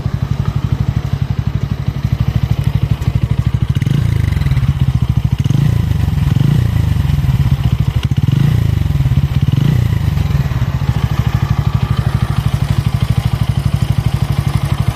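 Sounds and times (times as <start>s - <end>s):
motorcycle engine running roughly: 0.0s - 14.9s.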